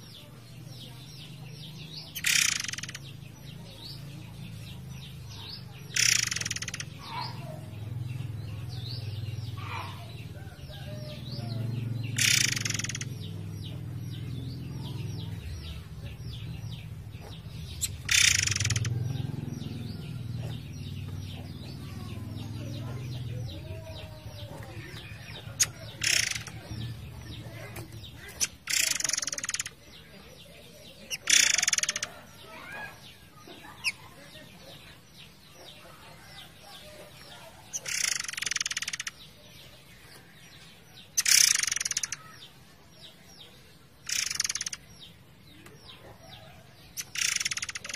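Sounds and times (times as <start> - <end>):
songbird chirping: 0.0 - 47.9.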